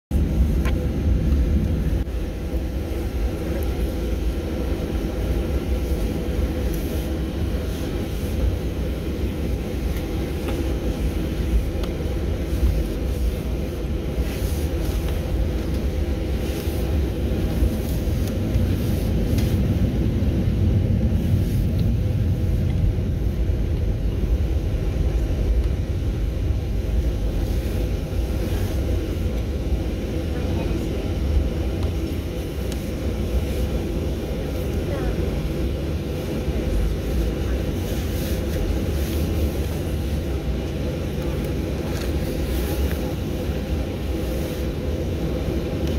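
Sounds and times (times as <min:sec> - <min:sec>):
airplane cabin rumble: 0:00.1 - 0:45.9.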